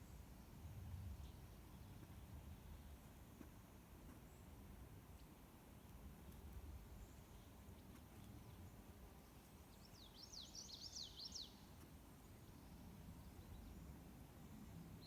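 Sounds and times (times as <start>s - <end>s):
faint low outdoor rumble: 0.0s - 15.0s.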